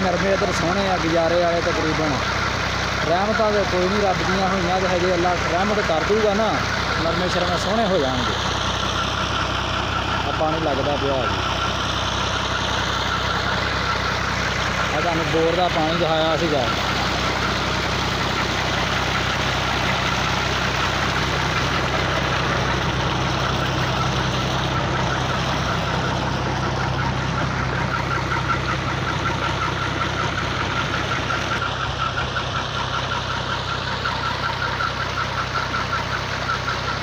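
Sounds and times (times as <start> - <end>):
tractor diesel engine running: 0.0 - 37.0
water gushing from pipe: 0.0 - 37.0.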